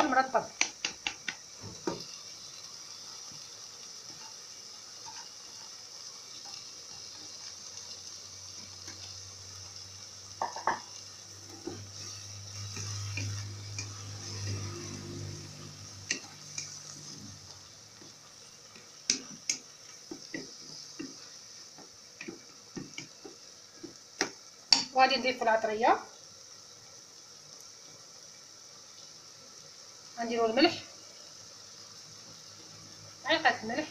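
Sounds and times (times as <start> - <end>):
sauce sizzling in a pot: 0.0 - 33.9.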